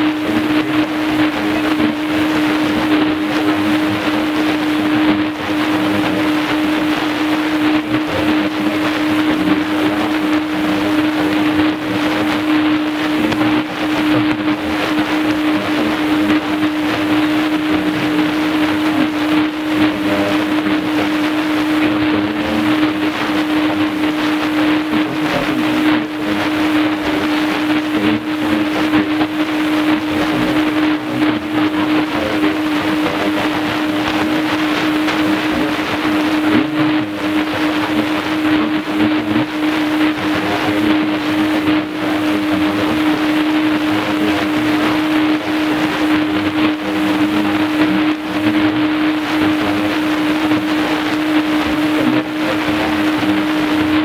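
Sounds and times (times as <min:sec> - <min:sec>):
constant low whistle: 0:00.0 - 0:54.0
radio static hiss: 0:00.0 - 0:54.0.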